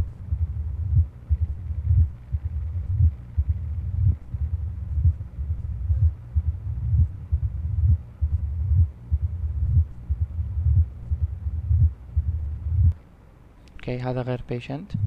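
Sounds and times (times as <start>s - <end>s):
heartbeat through stethoscope: 0.0s - 13.0s
low rumbling heart murmur: 0.0s - 13.0s.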